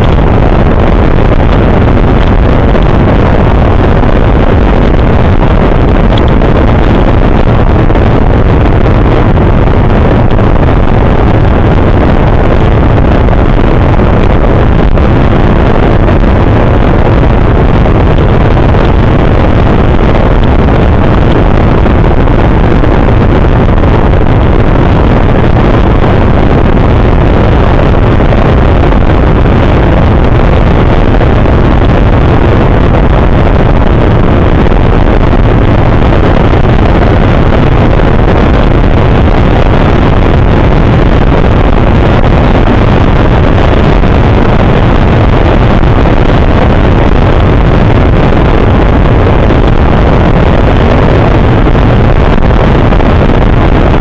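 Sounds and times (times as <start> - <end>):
hull on water: 0.0 - 54.0
wind rushing on microphone: 0.0 - 54.0.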